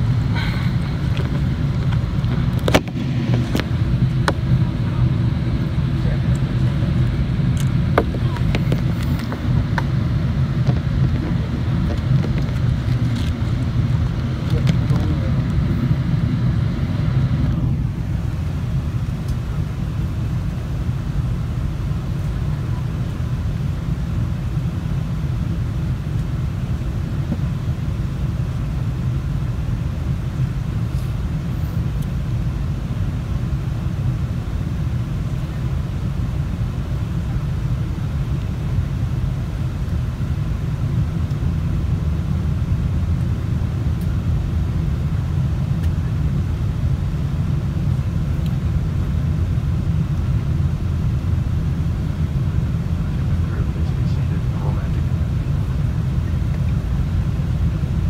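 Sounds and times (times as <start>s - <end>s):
airliner cabin rumble in flight: 0.0s - 58.0s.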